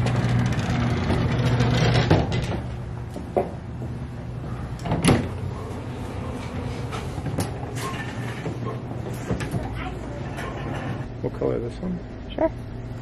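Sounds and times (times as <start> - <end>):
sliding doors humming: 0.0 - 11.1.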